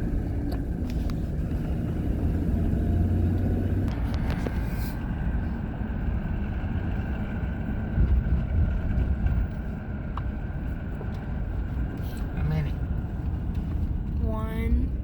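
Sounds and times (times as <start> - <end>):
car driving low rumble: 0.0 - 15.0.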